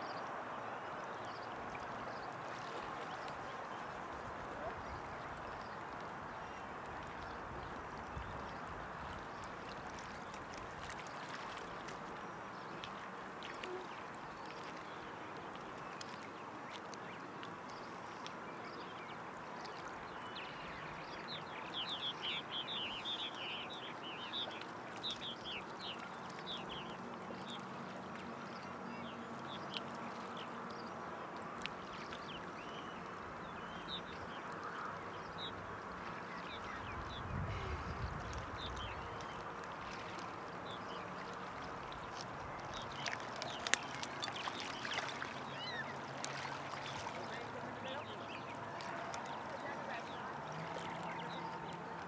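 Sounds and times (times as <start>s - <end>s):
river water flowing: 0.0s - 52.0s.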